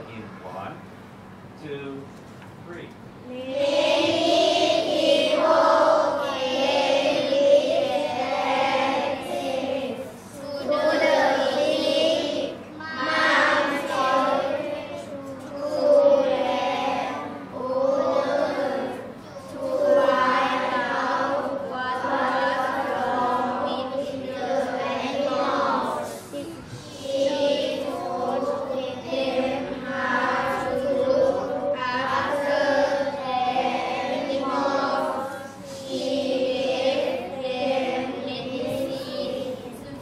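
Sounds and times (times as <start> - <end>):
children reading aloud in unison: 3.2 - 40.0.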